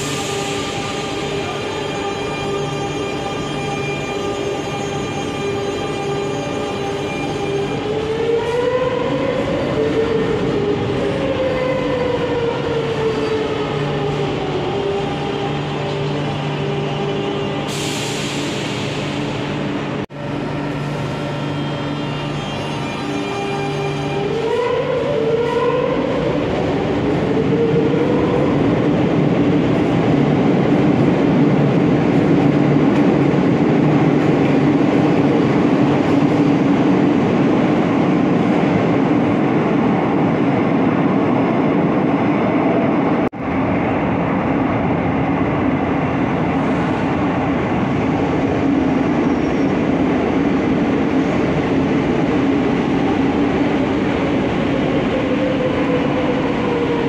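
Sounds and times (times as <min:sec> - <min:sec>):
train rumble and rail noise: 0:00.0 - 0:57.0.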